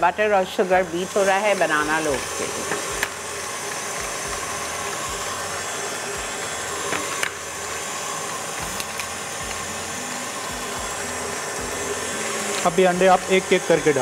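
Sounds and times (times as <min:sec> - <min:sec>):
electric stand mixer running: 0:00.0 - 0:14.0.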